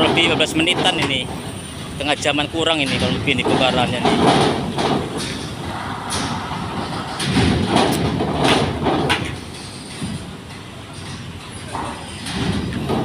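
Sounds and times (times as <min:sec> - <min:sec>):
vehicle engines and tyres: 0:00.0 - 0:13.0.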